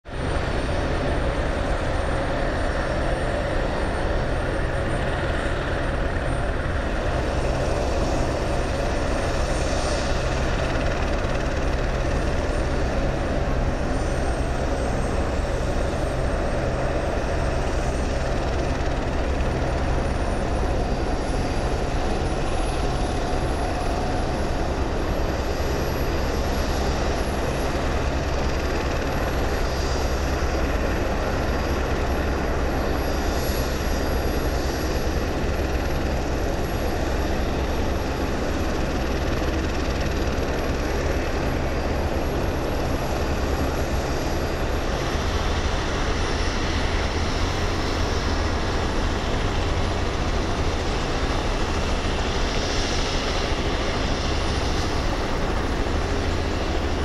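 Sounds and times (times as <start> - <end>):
helicopter idling: 0.1 - 57.0.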